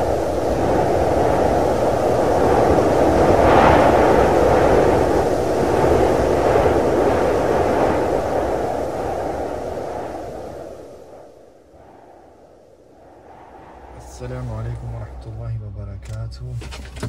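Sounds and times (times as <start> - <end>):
rushing rumble: 0.0 - 17.0.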